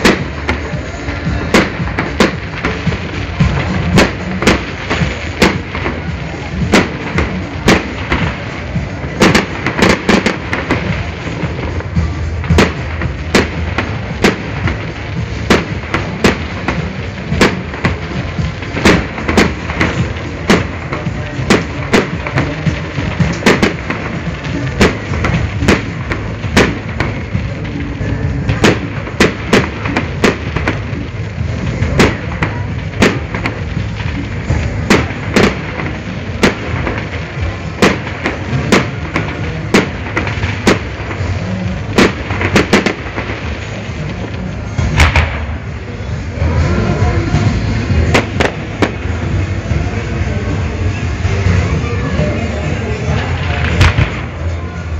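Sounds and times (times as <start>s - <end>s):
continuous low rumble: 0.0s - 54.9s
fireworks bangs: 0.0s - 54.9s.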